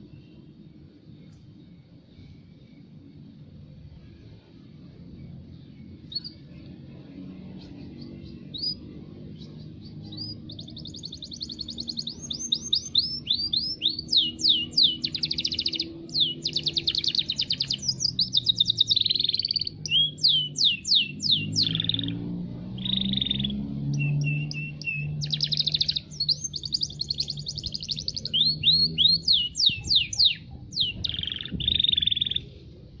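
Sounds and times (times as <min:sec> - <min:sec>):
canary singing: 0:05.8 - 0:32.6.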